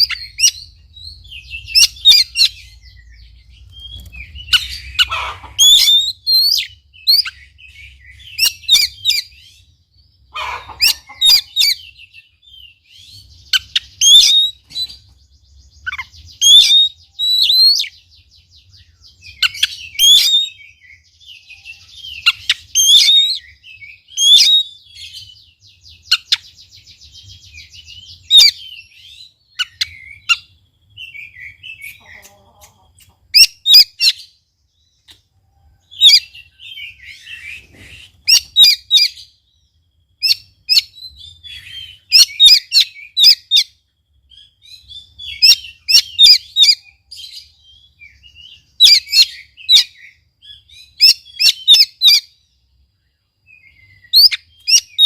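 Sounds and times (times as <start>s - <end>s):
bird singing whistled chirps: 0.0s - 10.3s, 11.4s - 32.0s, 33.3s - 55.0s.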